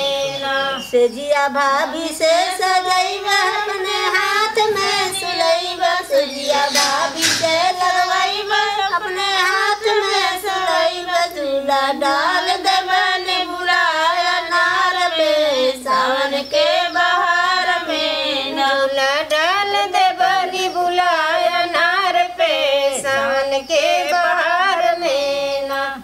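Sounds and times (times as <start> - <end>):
women singing unaccompanied: 0.0 - 26.0.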